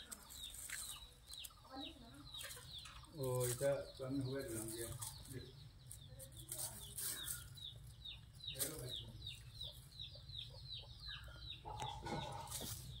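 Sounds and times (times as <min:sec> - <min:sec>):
chicks cheeping: 0:00.0 - 0:13.0.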